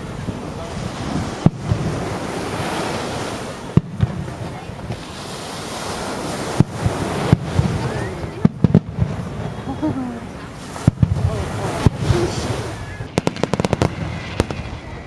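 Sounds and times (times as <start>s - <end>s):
fireworks bangs: 0.0s - 15.0s
surf washing: 0.0s - 15.0s
wind on microphone: 0.0s - 15.0s.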